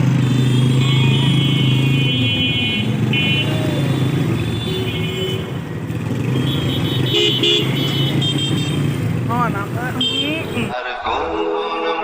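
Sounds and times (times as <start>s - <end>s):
motorcycle engine running: 0.0s - 10.7s
road noise: 0.0s - 11.7s.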